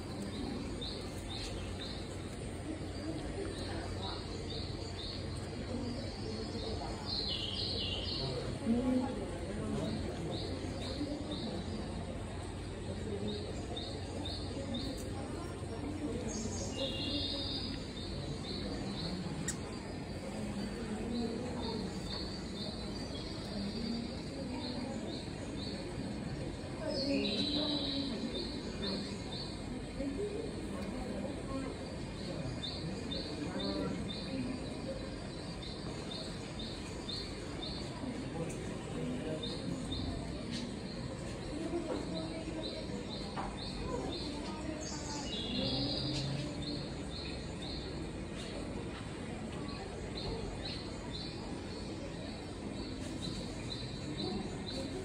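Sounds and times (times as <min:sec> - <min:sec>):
murmur of background voices: 0:00.0 - 0:55.0.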